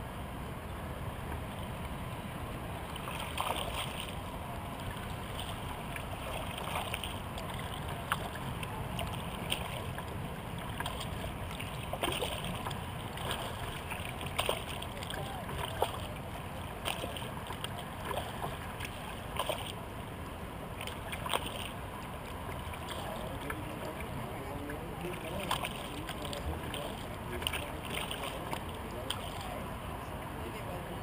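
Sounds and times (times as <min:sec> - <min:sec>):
paddle splashes: 0:01.3 - 0:30.4
water lapping at plastic hull: 0:01.3 - 0:30.4.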